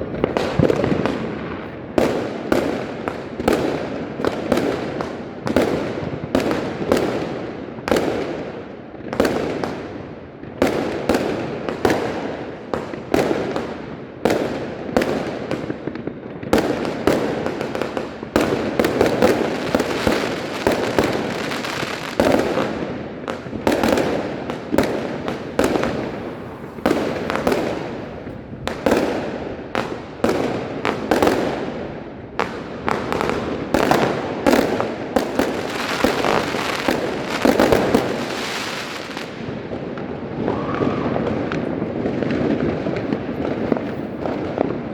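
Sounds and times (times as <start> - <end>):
fireworks and firecrackers banging: 0.0 - 44.9.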